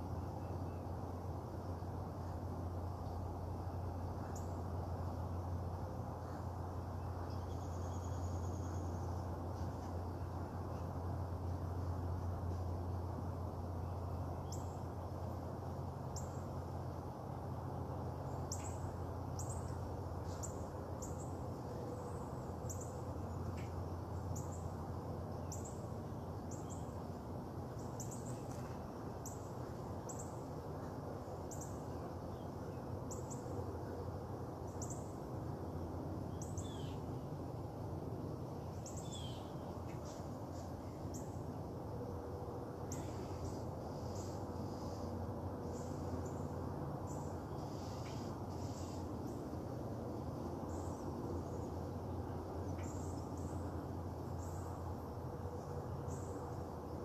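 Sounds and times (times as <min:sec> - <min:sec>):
background hiss: 0:00.0 - 0:57.0.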